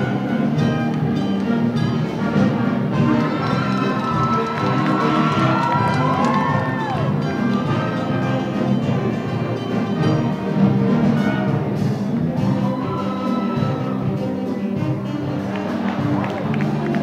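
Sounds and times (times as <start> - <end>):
sustained layered instrumental music: 0.0 - 17.0.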